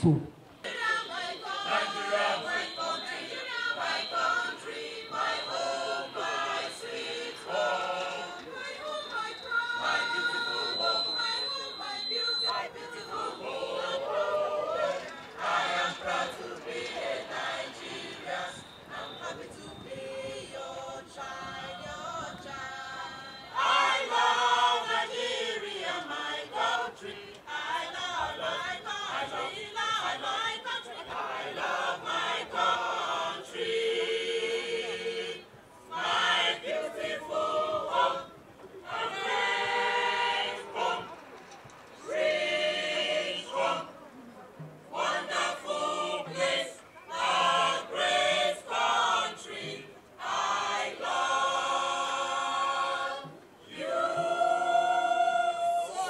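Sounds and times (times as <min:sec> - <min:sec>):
women's choir singing: 0:00.6 - 0:56.0.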